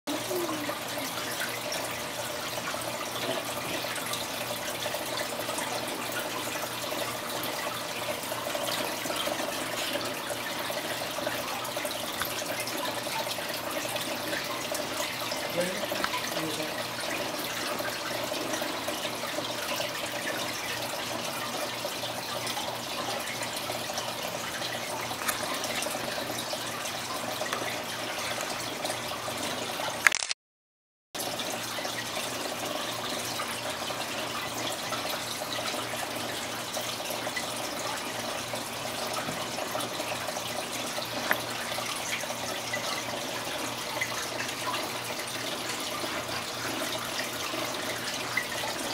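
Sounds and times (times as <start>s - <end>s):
aquarium water trickling and bubbling: 0.1s - 30.3s, 31.2s - 48.9s.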